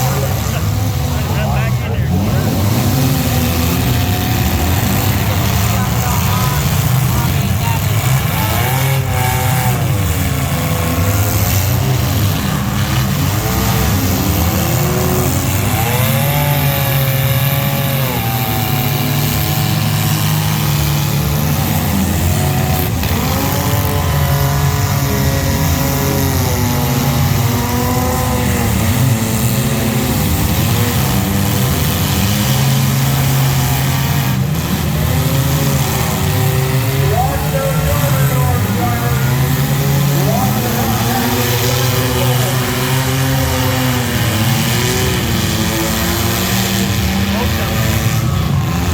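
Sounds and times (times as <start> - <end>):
engine revving: 0.0 - 48.9.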